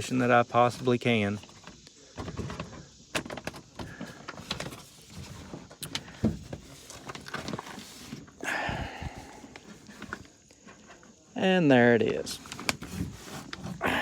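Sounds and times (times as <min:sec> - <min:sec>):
hand rummaging in plastic and metal: 0:00.0 - 0:11.2, 0:12.0 - 0:14.0
rustle: 0:00.0 - 0:11.2.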